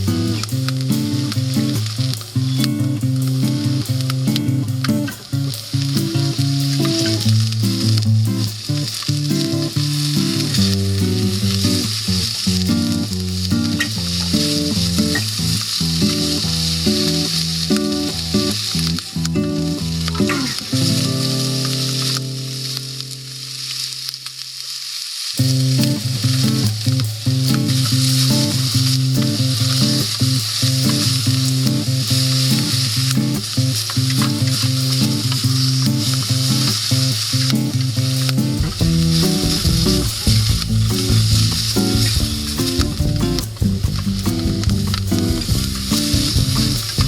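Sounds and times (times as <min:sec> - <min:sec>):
food sizzling over campfire: 0:00.0 - 0:47.0.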